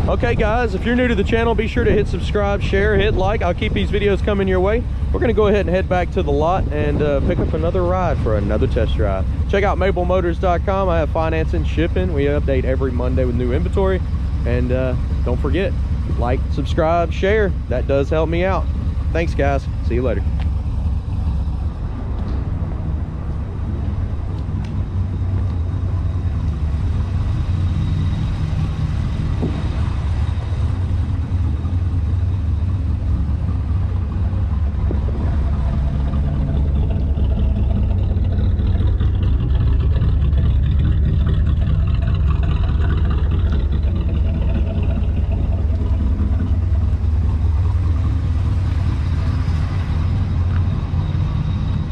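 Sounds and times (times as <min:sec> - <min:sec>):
car engine exhaust rumble: 0:00.0 - 0:51.9.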